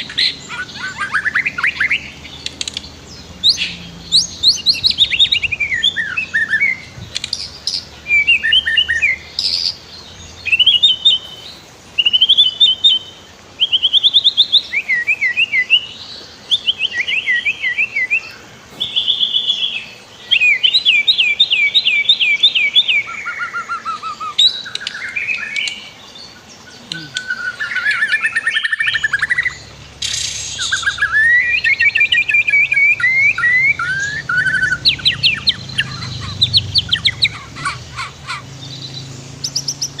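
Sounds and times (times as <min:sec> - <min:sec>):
bird singing varied phrases: 0:00.0 - 0:40.0.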